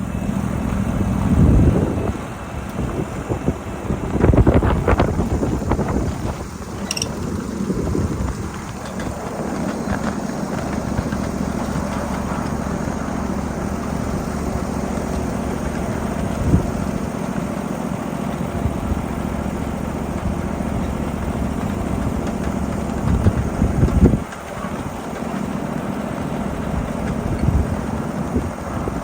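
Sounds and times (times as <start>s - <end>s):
miniature train running on track: 0.0s - 29.0s.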